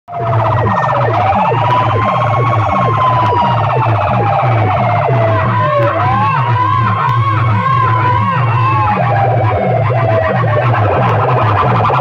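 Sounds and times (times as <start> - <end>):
fast electronic bass beat: 0.1 - 12.0
siren effect over loudspeakers: 0.1 - 12.0.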